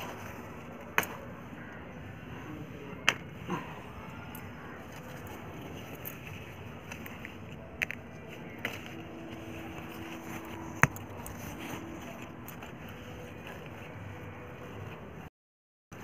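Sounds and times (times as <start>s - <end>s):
background noise: 0.0s - 15.3s.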